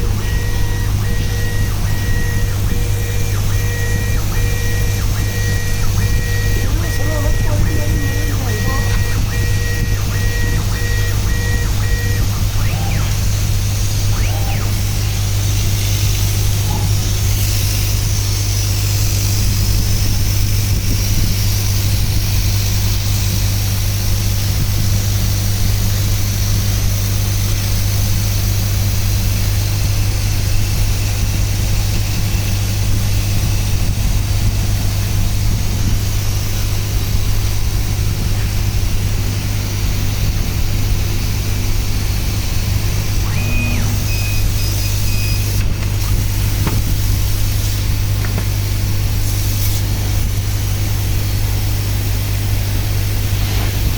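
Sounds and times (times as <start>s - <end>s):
laser cutter humming and hissing: 0.0s - 53.9s.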